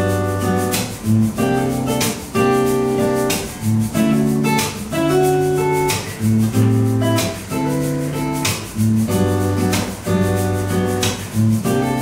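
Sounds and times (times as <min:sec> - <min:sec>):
acoustic guitar strumming: 0:00.0 - 0:12.0
hand shaker: 0:00.0 - 0:12.0.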